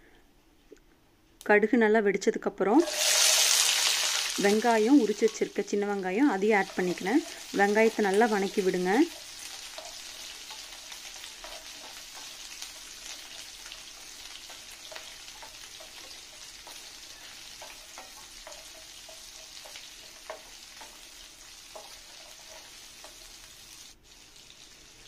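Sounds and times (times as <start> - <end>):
onions sizzling in oil: 2.8 - 25.0.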